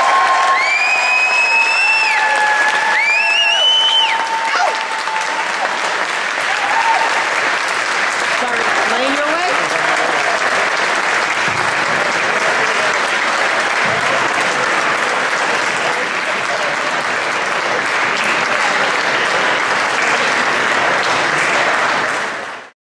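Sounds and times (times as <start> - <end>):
audience applauding: 0.0 - 22.7.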